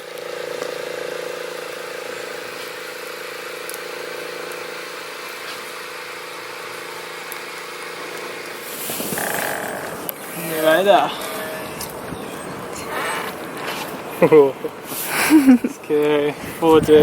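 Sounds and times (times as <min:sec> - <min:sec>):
mechanical hum with hiss: 0:00.0 - 0:17.0.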